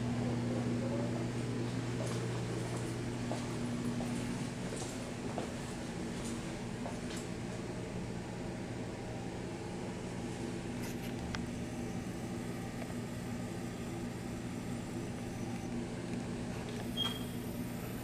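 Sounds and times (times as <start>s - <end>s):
electrical hum of kitchen machinery: 0.0s - 18.0s.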